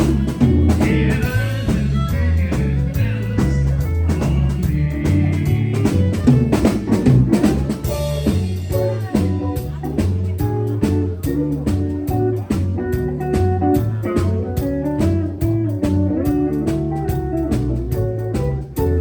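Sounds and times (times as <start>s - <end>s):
drum kit beat with rimshots: 0.0s - 19.0s
electric bass: 0.0s - 19.0s
lead guitar line: 0.0s - 19.0s.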